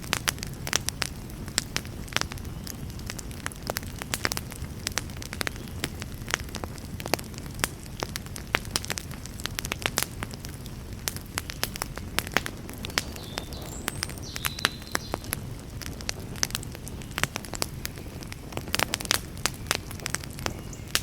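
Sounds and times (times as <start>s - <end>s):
low rumble of burning: 0.0s - 21.0s
wood fire crackling: 0.0s - 21.0s.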